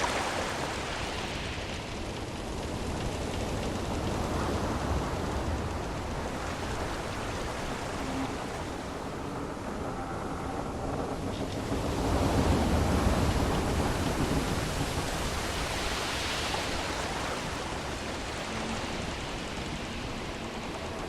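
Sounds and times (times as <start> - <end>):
sea waves washing: 0.0 - 21.0.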